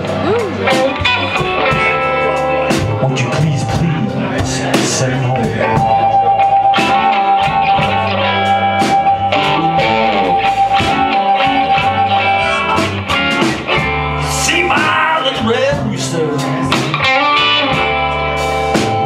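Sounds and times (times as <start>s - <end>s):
drums: 0.0s - 19.0s
electric bass: 0.0s - 19.0s
electric guitar: 0.0s - 19.0s.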